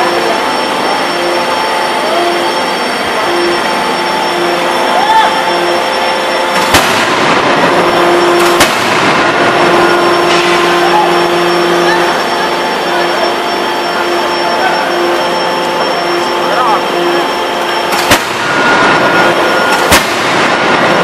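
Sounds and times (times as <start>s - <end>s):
loud machinery noise: 0.0s - 21.0s.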